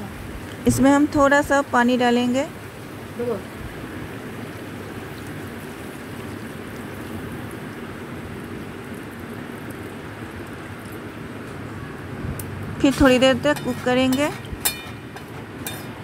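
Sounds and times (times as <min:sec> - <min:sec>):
curry sizzling and bubbling: 0:00.2 - 0:16.0.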